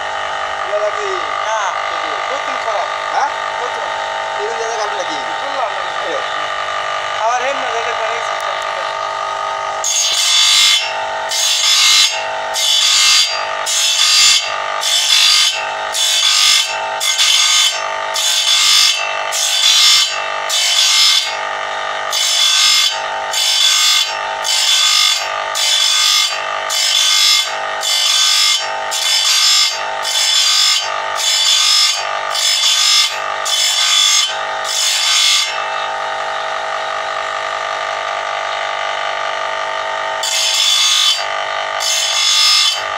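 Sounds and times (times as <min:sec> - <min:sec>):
grinding wheel motor running: 0:00.0 - 0:42.9
harsh grinding on saw blade: 0:00.0 - 0:42.9.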